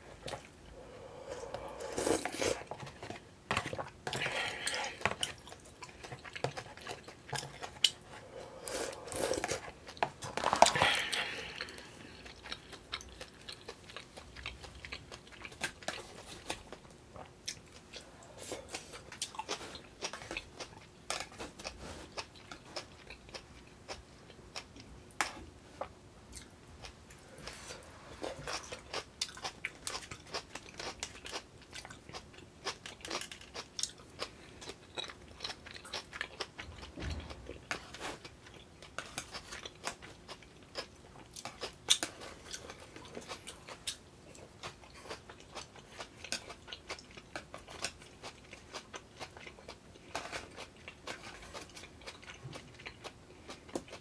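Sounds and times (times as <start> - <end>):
chewing and biting food: 1.5 - 27.6, 28.3 - 54.0.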